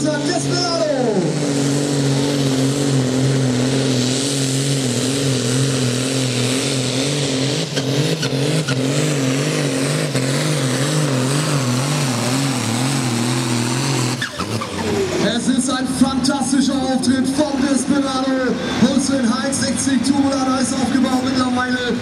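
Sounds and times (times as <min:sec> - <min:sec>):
loud diesel engine drone: 0:00.0 - 0:22.0.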